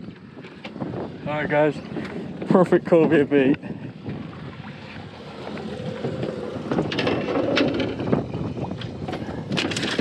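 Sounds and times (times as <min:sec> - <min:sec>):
water around boat: 0:00.0 - 0:10.0
wind: 0:00.0 - 0:10.0.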